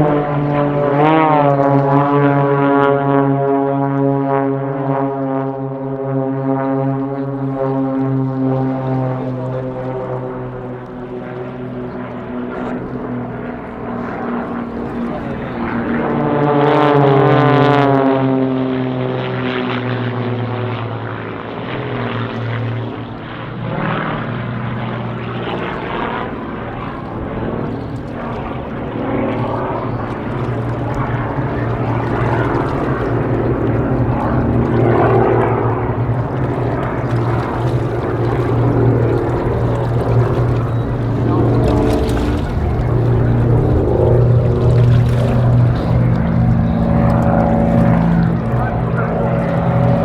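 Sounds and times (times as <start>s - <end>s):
propeller planes flying past: 0.0s - 50.0s.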